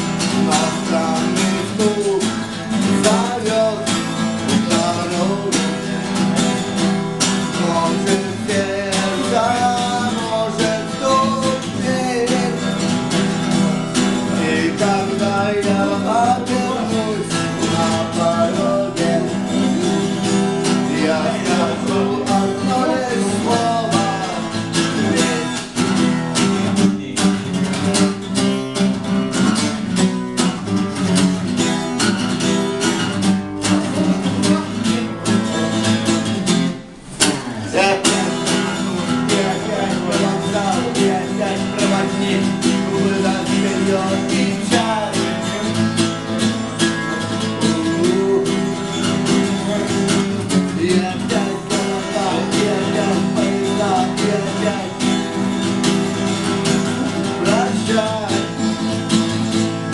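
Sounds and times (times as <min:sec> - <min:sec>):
strummed guitar: 0:00.0 - 0:59.9.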